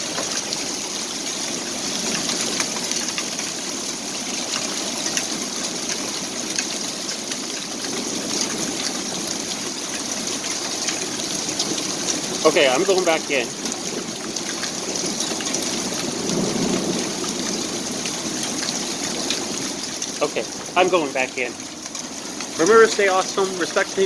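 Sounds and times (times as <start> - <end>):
heavy rain pouring: 0.0 - 24.0
raindrops ticking on surfaces: 0.0 - 24.0.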